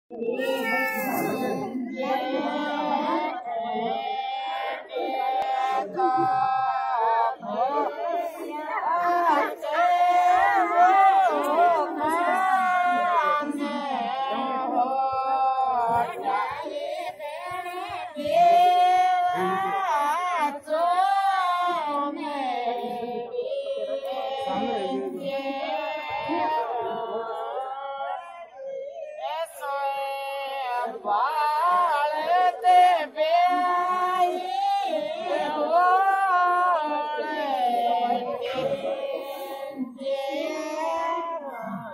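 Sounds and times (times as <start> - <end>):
women singing folk song: 0.1 - 41.9.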